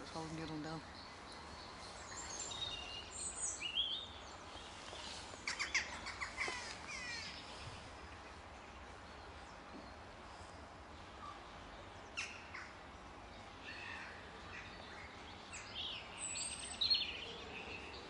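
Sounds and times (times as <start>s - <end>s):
songbirds chirping and trilling: 0.0s - 18.0s.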